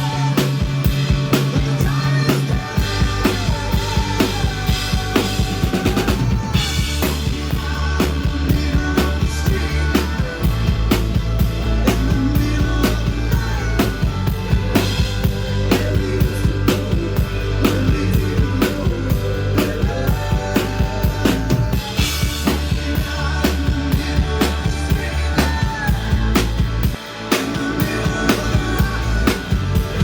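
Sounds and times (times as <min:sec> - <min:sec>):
live rock band music: 0:00.0 - 0:30.0.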